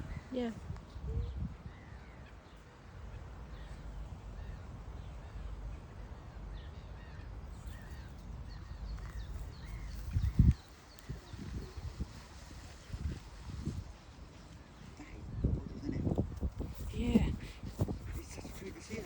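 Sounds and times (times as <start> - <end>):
birds chirping: 0.0 - 19.0
wind rumble on microphone: 0.0 - 19.0.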